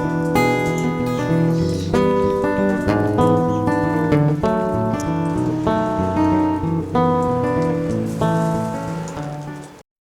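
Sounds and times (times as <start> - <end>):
acoustic guitar melody: 0.0 - 9.8.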